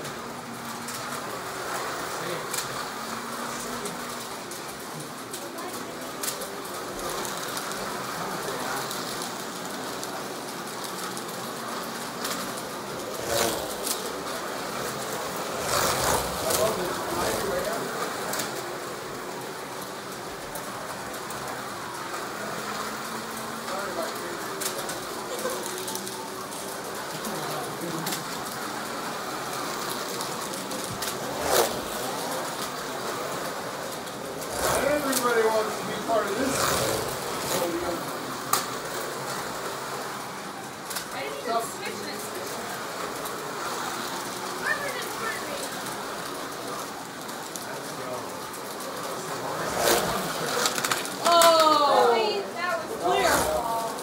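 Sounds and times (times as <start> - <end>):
slot cars rushing on plastic track: 0.0 - 54.0.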